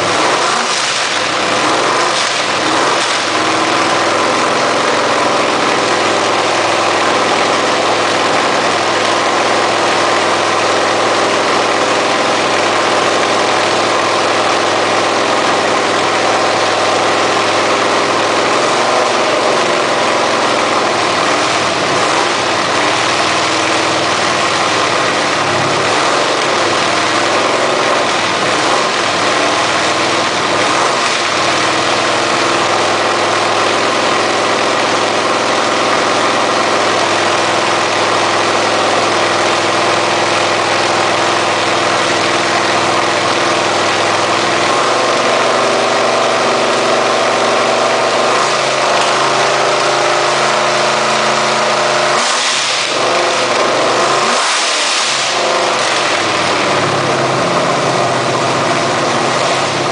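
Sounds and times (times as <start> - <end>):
engine idling with deep rumble: 0.0 - 59.9.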